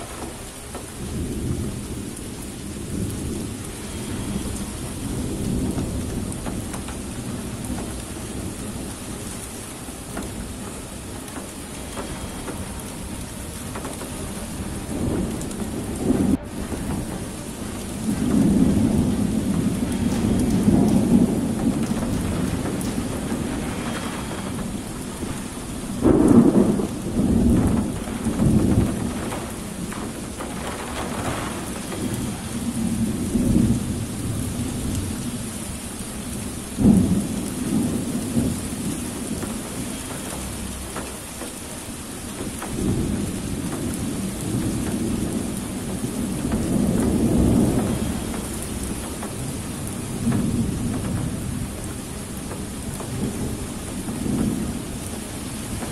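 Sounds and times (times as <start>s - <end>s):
sharp thunderclap: 0.0s - 35.5s, 36.3s - 41.3s, 42.4s - 55.1s
heavy rain downpour: 0.0s - 55.9s
rolling thunder: 0.0s - 55.9s.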